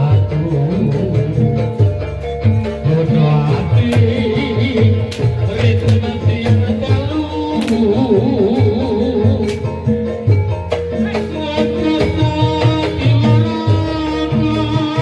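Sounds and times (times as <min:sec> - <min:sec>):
gamelan ensemble playing: 0:00.0 - 0:15.0
repeated drum beats: 0:00.0 - 0:15.0
wavering melody line: 0:00.0 - 0:15.0.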